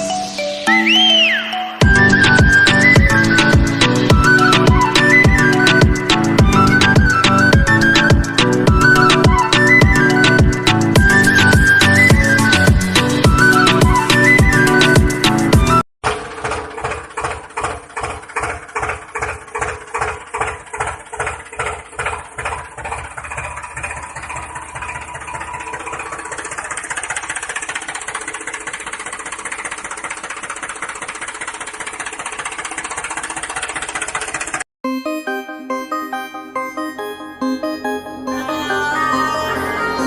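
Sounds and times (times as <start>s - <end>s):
small engine starting up: 1.3s - 34.7s.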